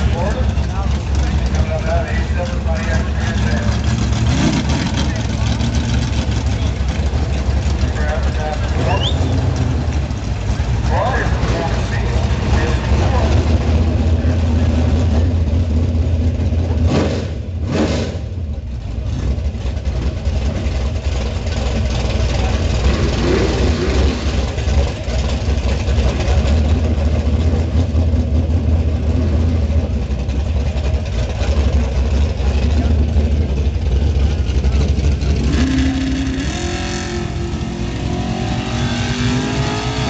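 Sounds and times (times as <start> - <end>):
drag car engine rumbling: 0.0 - 40.0.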